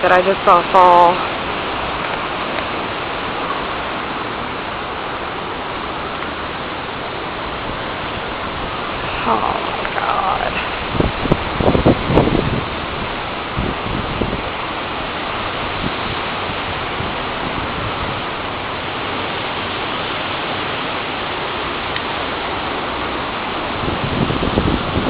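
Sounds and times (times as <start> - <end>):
windstorm rushing: 0.0 - 25.0.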